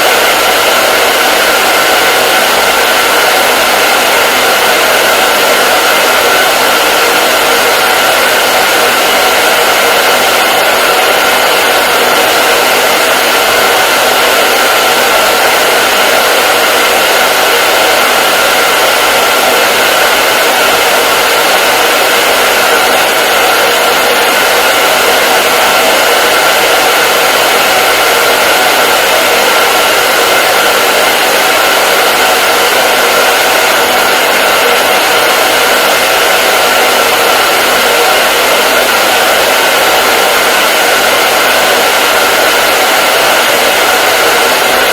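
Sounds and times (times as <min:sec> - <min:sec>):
hair dryer running: 0:00.0 - 0:44.9.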